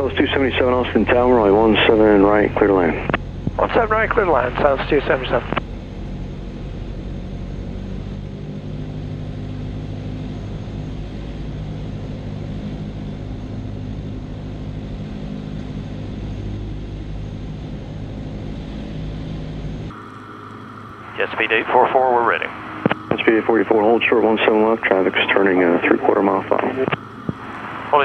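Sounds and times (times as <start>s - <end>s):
piston engine and propeller hum: 0.0s - 28.0s.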